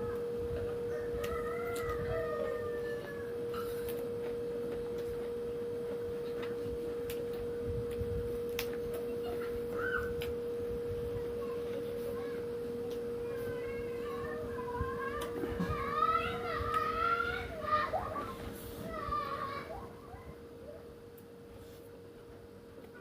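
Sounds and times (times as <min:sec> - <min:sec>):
steady single-pitched hum: 0:00.0 - 0:23.0.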